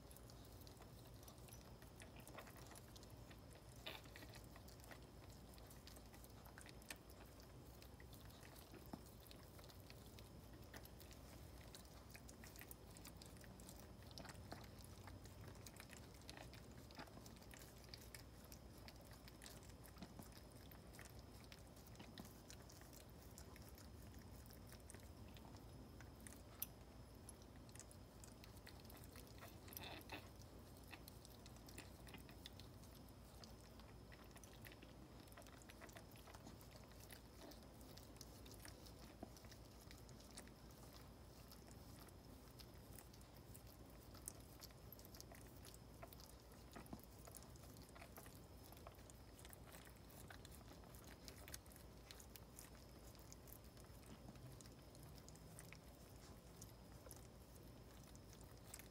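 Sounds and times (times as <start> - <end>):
dog licking: 0.0 - 58.9.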